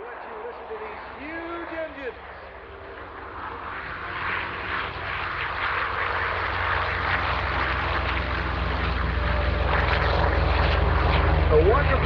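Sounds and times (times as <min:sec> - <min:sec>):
propeller roar: 0:00.0 - 0:12.0
radial piston engines rumbling: 0:00.0 - 0:12.0.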